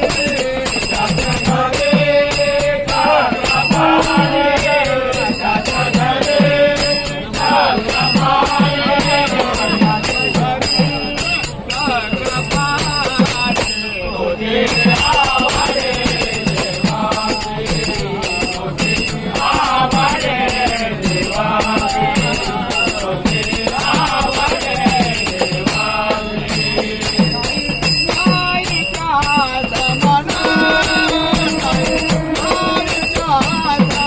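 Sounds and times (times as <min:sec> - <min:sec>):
hand cymbals clashing: 0:00.0 - 0:34.0.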